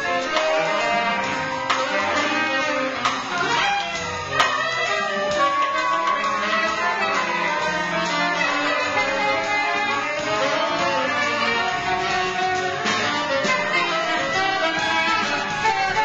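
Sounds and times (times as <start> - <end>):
drums: 0.0 - 16.0
electric bass: 0.0 - 16.0
saxophone ensemble: 0.0 - 16.0.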